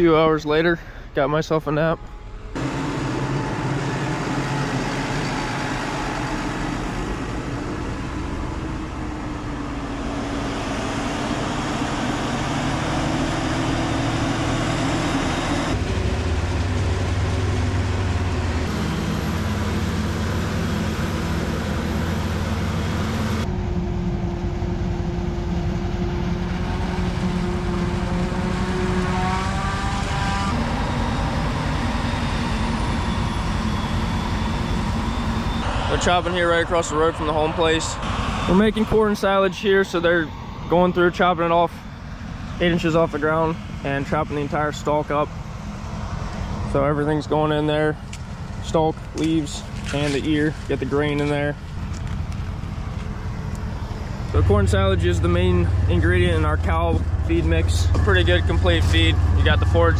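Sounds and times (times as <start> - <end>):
farm machinery engine drone: 0.0 - 59.9.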